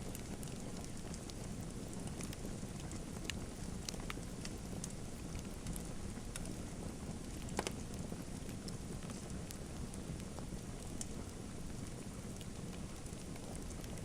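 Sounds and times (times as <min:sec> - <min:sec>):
fire pops and snaps: 0:00.0 - 0:14.0
wood fire crackling: 0:00.0 - 0:14.0.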